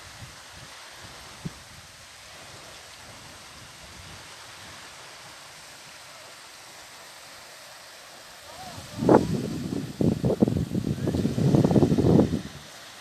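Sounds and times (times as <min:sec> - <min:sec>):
surf washing: 0:00.0 - 0:13.0.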